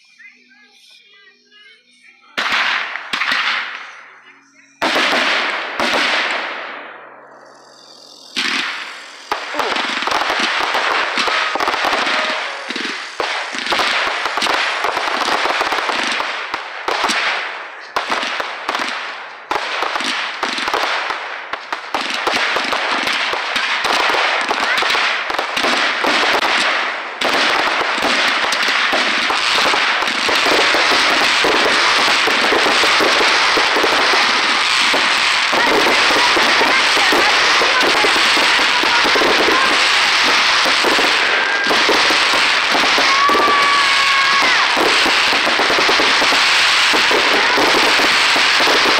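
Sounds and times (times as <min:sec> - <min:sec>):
fireworks popping and crackling: 0:00.0 - 0:48.9.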